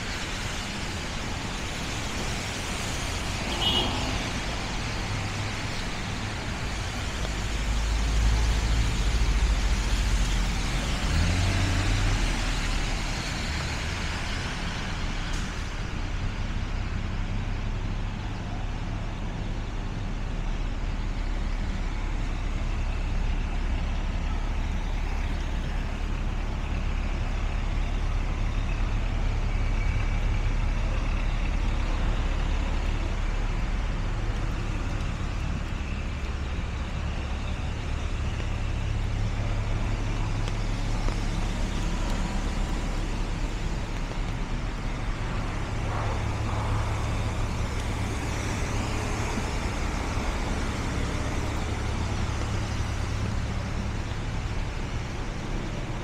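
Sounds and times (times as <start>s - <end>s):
tyres hissing on wet road: 0.0s - 56.0s
vehicle engines rumbling: 0.0s - 56.0s.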